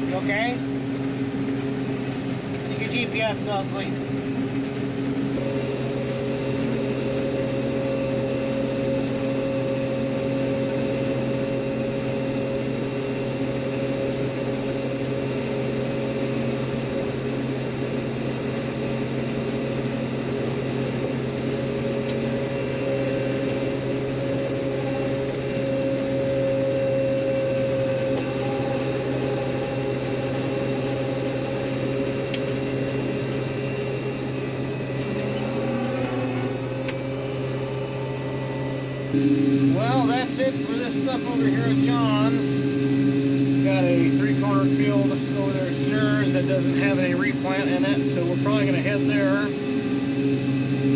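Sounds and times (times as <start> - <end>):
combine harvester droning: 0.0 - 50.9.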